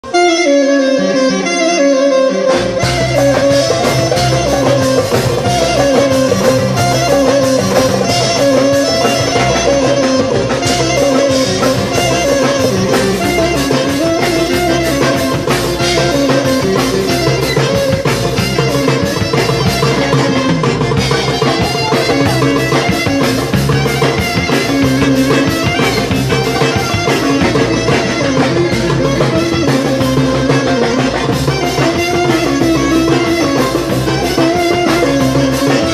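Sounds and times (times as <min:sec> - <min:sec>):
bouzouki: 0:00.0 - 0:35.9
clarinet ornamented melody: 0:00.0 - 0:35.9
percussion steady beat: 0:02.6 - 0:35.9.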